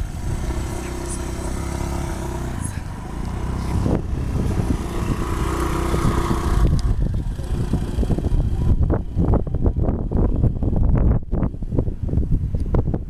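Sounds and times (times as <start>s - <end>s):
scooter engine pulling away: 0.0s - 10.7s.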